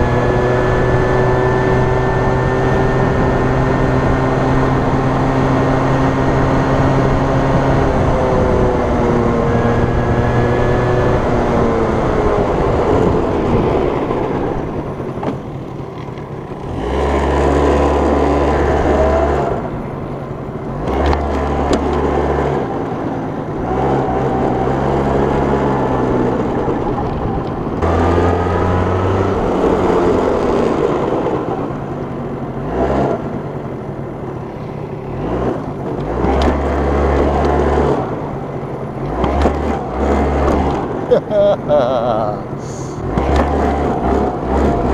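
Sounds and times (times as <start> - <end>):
scooter engine revving: 0.0 - 44.9.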